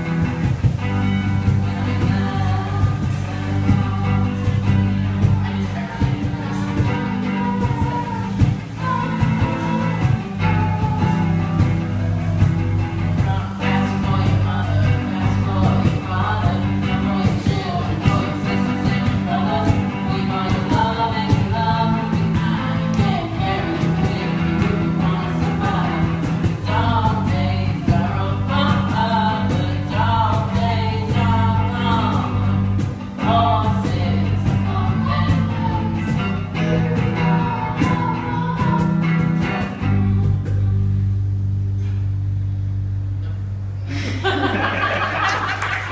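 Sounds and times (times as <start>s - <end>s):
cajon drum beat: 0.0s - 40.7s
person singing lead vocal: 0.0s - 41.0s
bass guitar: 0.0s - 45.9s
electric guitar: 0.0s - 45.9s.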